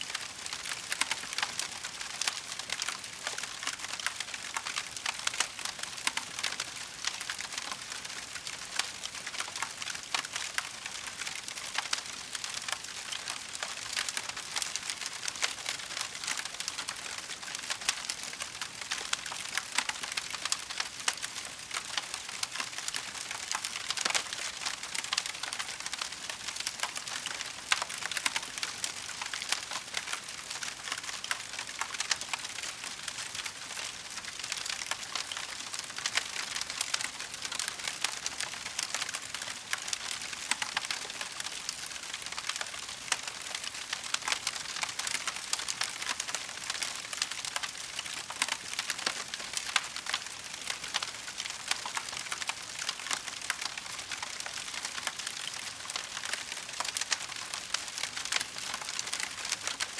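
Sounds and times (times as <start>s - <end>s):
wood fire crackling: 0.1s - 9.9s, 13.8s - 18.3s, 19.0s - 59.9s.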